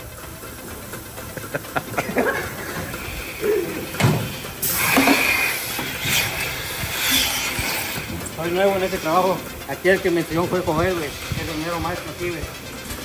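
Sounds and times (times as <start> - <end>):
steady hiss of air: 0.0 - 13.0.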